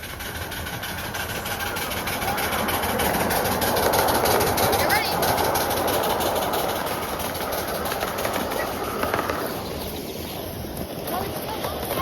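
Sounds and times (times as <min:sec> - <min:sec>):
small train rolling on track: 0:00.0 - 0:12.0
wheels clicking on rails: 0:00.0 - 0:12.0.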